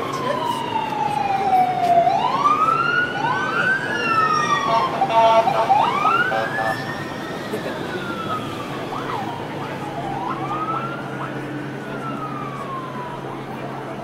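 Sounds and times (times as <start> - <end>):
emergency vehicle siren wailing: 0.0 - 14.0.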